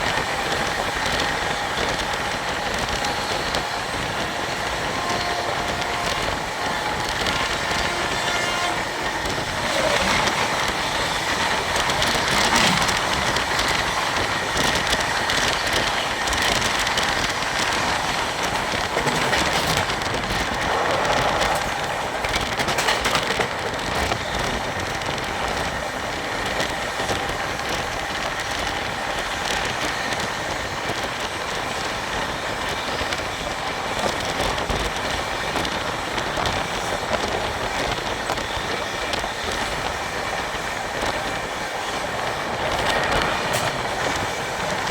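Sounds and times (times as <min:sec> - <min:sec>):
train rumbling on track: 0:00.0 - 0:44.9
wheels clicking on rails: 0:00.0 - 0:44.9.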